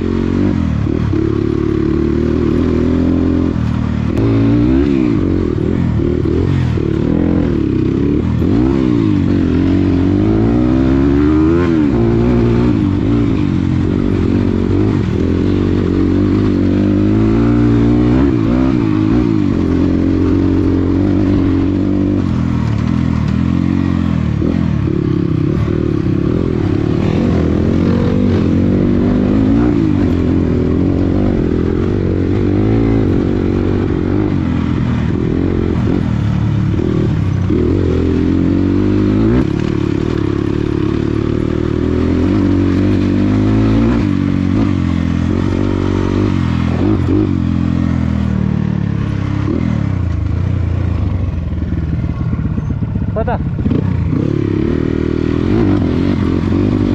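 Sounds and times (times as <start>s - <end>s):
dirt bike engine revving: 0.0s - 51.5s, 52.3s - 56.9s.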